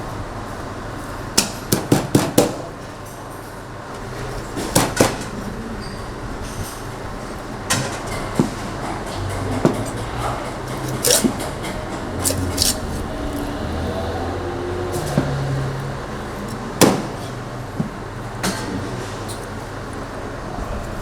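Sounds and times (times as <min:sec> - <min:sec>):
kitchen hum: 0:04.0 - 0:21.0.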